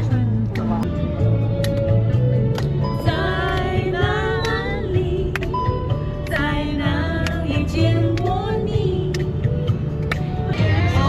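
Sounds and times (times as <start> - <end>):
pop music with sung melody: 0.0 - 11.0.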